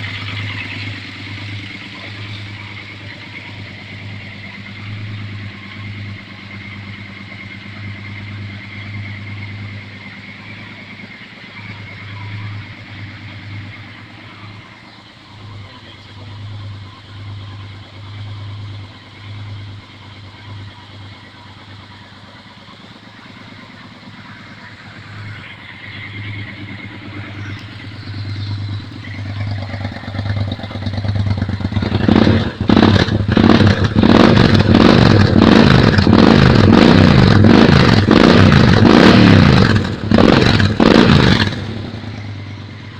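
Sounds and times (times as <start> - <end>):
engine revving in sharp blips: 0.0 - 42.9
motorcycle engine idling: 0.0 - 42.9.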